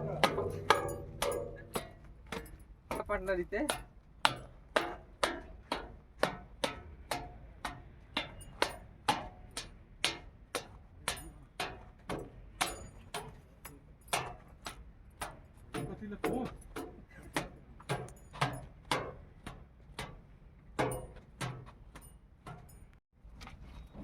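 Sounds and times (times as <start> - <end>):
sharp knocks or ticks: 0.0 - 13.4, 14.1 - 20.2.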